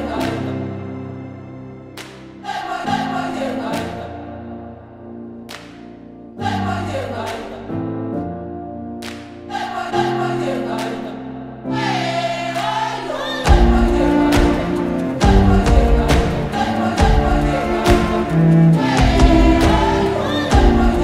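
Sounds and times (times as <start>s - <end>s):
singing voices: 0.0s - 1.4s, 2.0s - 4.8s, 6.3s - 7.9s, 9.2s - 21.0s.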